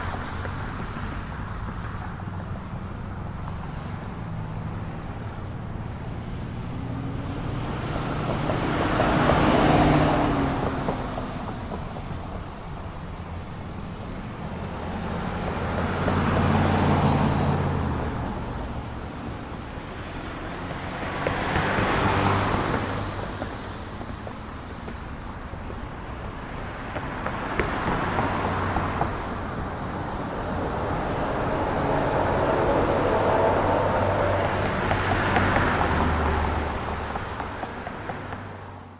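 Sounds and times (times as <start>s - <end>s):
engines rumbling: 0.0s - 38.9s
vehicles passing: 0.0s - 38.9s.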